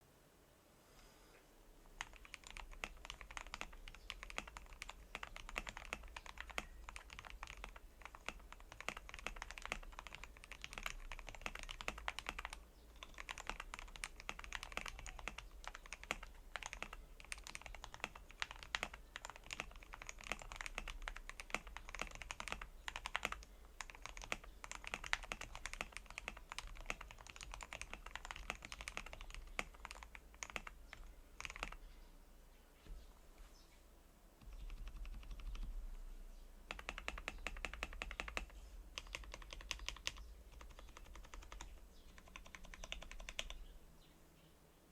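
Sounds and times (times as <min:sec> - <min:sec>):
fast mechanical keyboard typing: 0:02.0 - 0:31.8, 0:34.5 - 0:35.7, 0:36.7 - 0:43.6.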